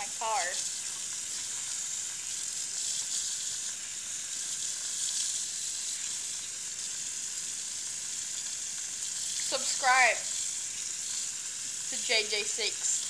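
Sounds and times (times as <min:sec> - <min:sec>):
faucet water splashing into sink: 0:00.0 - 0:13.0.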